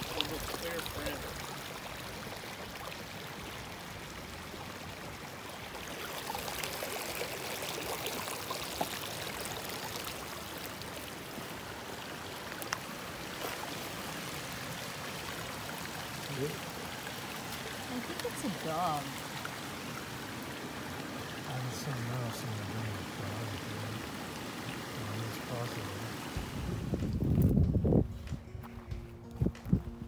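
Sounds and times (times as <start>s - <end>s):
creek water babbling: 0.0s - 28.0s.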